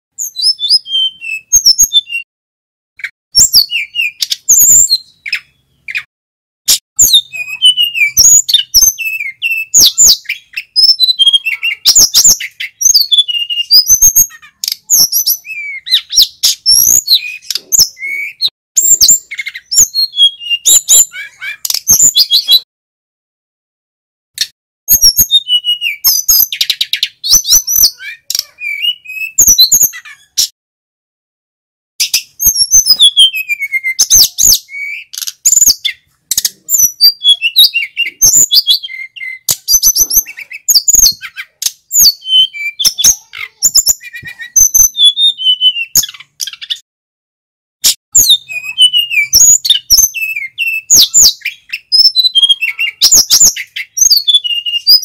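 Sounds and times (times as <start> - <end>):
bird singing high chirps: 0.2 - 2.3, 3.0 - 6.1, 6.7 - 22.7, 24.9 - 30.5, 32.0 - 46.8, 47.8 - 55.0.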